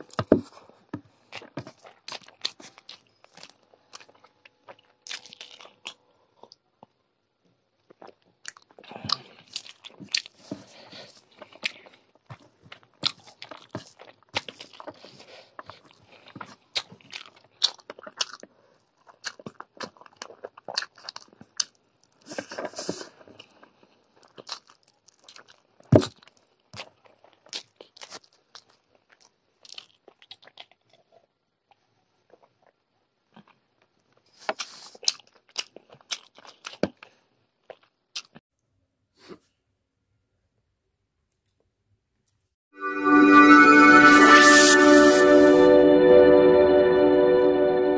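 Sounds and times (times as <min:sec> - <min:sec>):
chewing food: 0:00.0 - 0:38.4.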